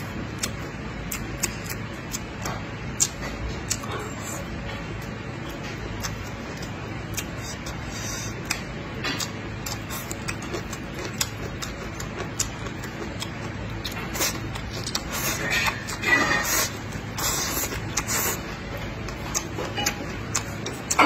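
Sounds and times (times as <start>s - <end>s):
person chewing food: 0.0s - 21.0s
steady low hum: 0.0s - 21.0s.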